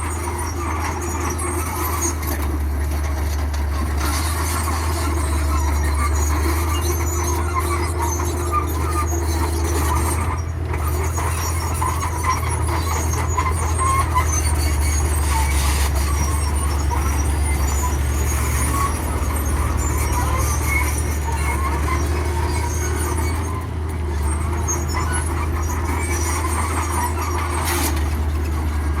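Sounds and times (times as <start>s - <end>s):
squeaks and grinding of parts: 0.0s - 29.0s.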